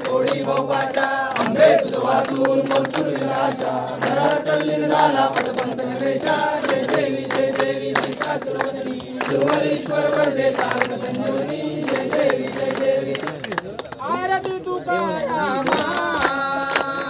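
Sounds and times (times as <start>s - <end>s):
crowd singing a hymn: 0.0s - 13.6s, 14.2s - 17.0s
hand claps: 0.0s - 17.0s.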